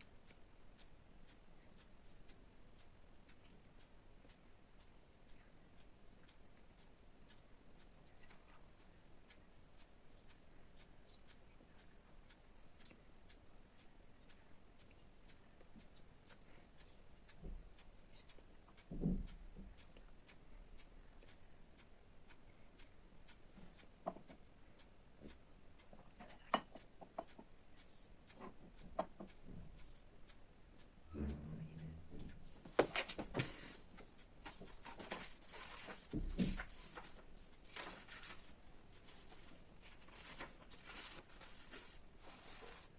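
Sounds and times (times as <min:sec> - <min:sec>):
clock ticking: 0:00.0 - 0:42.9.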